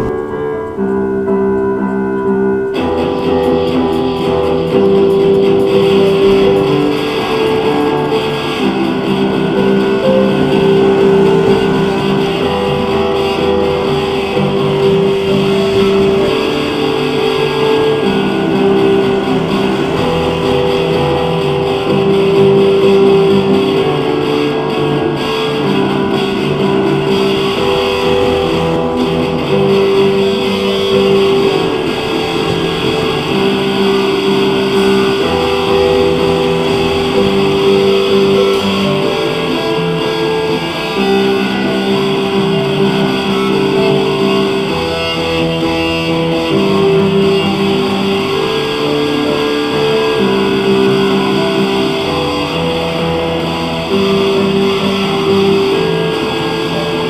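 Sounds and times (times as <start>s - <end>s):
instrumental background music: 0.0s - 57.0s.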